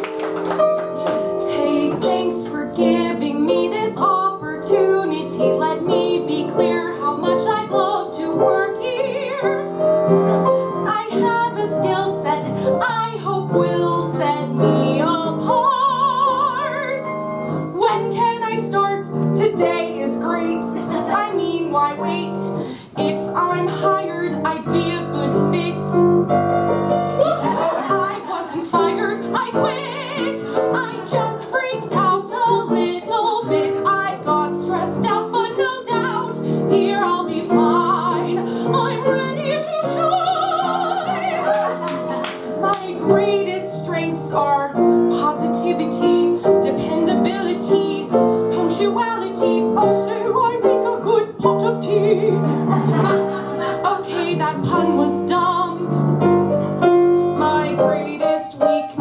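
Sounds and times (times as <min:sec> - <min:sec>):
piano playing: 0:00.0 - 0:59.0
woman singing operatically: 0:01.4 - 0:09.7, 0:10.8 - 0:17.2, 0:17.8 - 0:26.3, 0:27.0 - 0:52.5, 0:53.8 - 0:56.0, 0:57.4 - 0:59.0.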